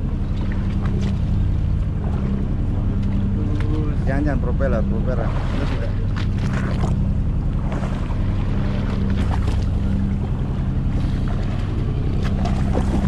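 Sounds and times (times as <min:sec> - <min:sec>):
boat engine idling: 0:00.0 - 0:13.0
sea noise: 0:00.0 - 0:13.0
wind: 0:00.0 - 0:13.0.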